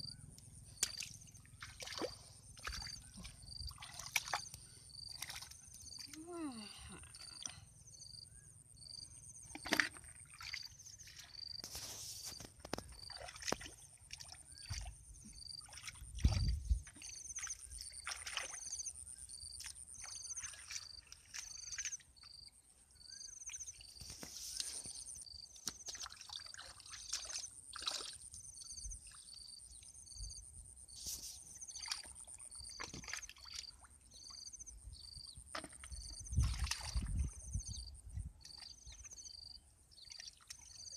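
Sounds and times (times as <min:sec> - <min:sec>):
water splashing and sloshing: 0:00.6 - 0:07.7, 0:09.4 - 0:29.6, 0:31.1 - 0:40.9.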